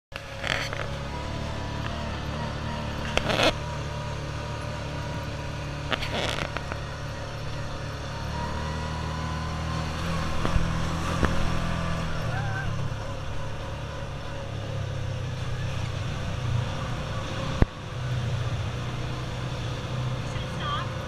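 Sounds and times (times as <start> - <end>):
atv engine running: 0.1 - 21.0.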